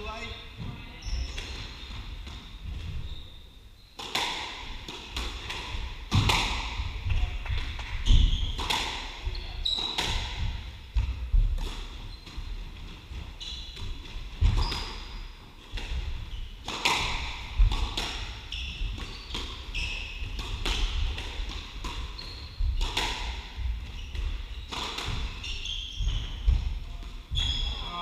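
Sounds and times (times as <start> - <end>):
shoes squeaking on court floor: 0.0 - 4.5, 5.1 - 28.0.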